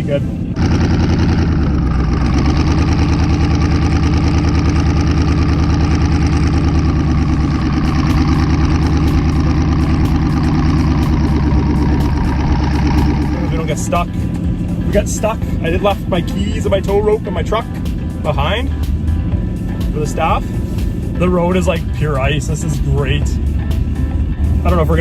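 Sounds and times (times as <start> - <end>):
loud engine at steady revs: 0.0 - 25.0.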